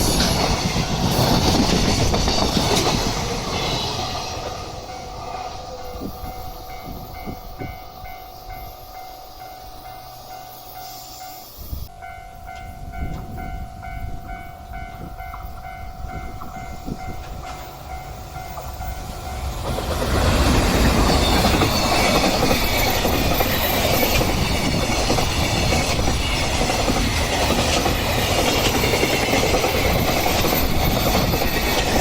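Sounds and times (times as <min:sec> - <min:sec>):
train rumble and wheel knocks: 0:00.0 - 0:08.9, 0:11.8 - 0:32.0.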